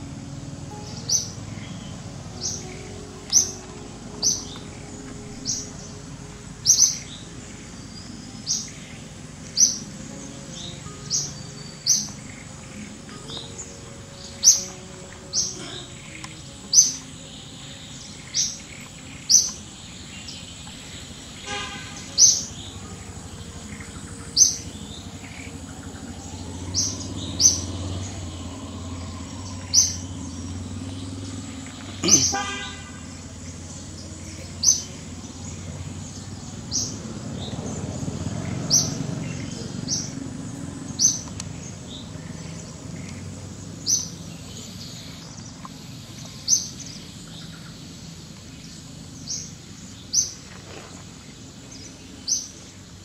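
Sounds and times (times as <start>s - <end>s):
bird chirping: 0.0s - 50.6s.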